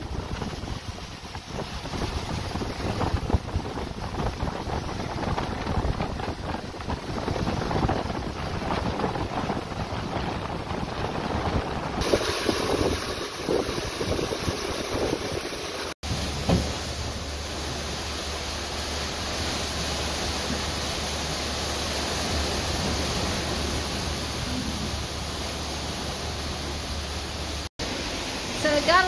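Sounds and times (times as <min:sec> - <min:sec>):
wind buffeting microphone: 0:00.0 - 0:27.6
water rushing along hulls: 0:00.0 - 0:29.0.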